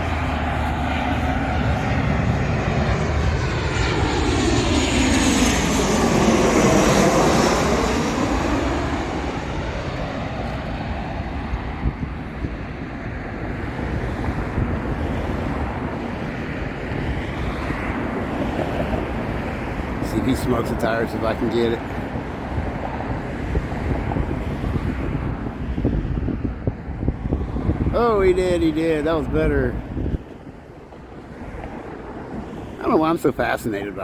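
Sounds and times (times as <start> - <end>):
jet airliner passing by: 0.0 - 34.0.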